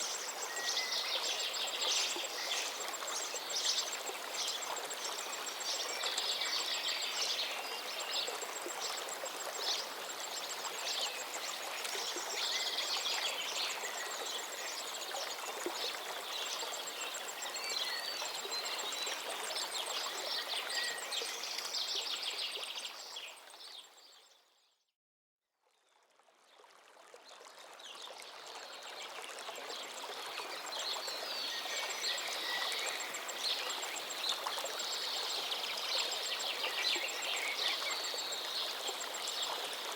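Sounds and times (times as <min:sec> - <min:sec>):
river water streaming: 0:00.0 - 0:24.0, 0:25.9 - 0:39.9.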